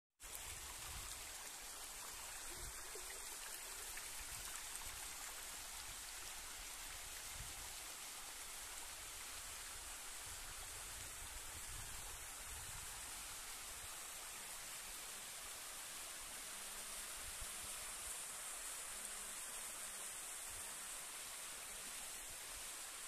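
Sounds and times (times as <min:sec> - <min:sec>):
waterfall and stream over stones: 0:00.2 - 0:23.0.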